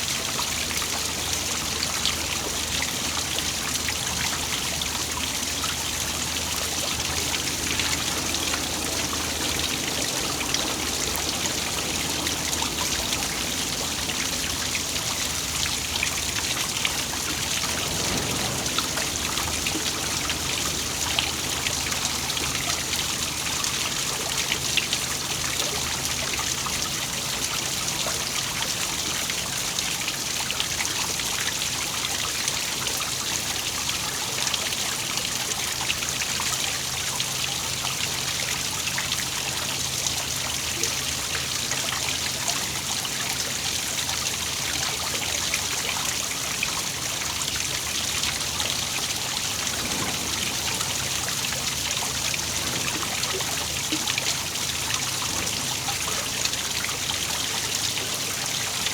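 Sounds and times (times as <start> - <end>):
waterfall splashing: 0.0 - 58.9.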